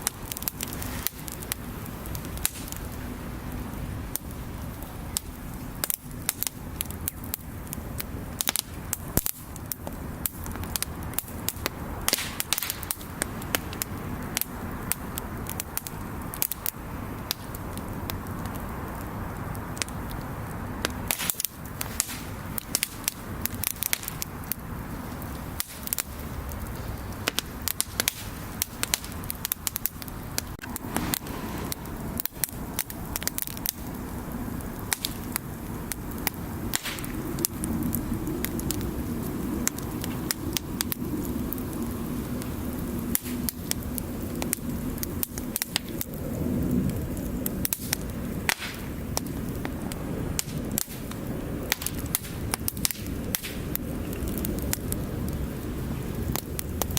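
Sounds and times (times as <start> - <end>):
bonfire crackling and popping: 0.0 - 56.9.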